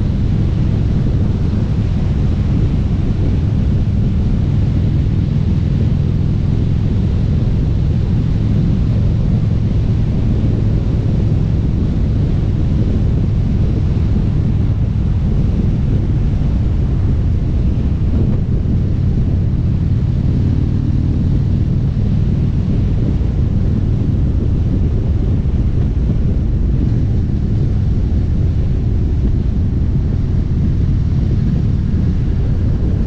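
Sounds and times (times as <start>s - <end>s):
motorcycle engine cruising: 0.0s - 33.0s
wind buffeting microphone: 0.0s - 33.0s.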